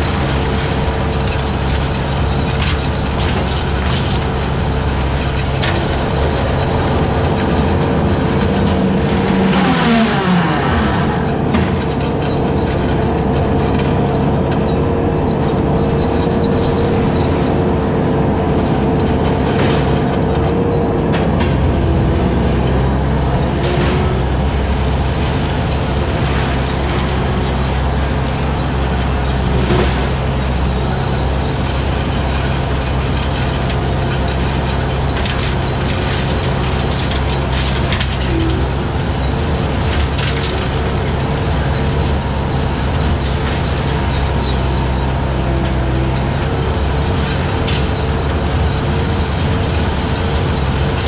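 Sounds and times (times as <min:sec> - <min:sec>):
skid steer engine running: 0:00.0 - 0:51.0
brush cutter whine: 0:05.4 - 0:39.3, 0:41.0 - 0:51.0.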